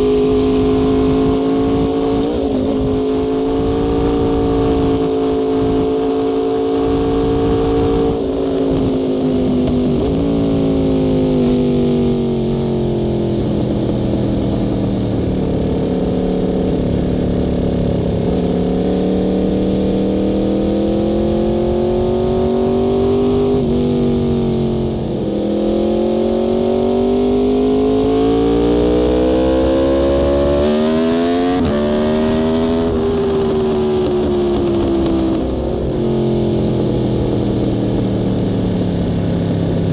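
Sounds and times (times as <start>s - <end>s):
motorcycle engine revving with gear shifts: 0.0s - 39.9s.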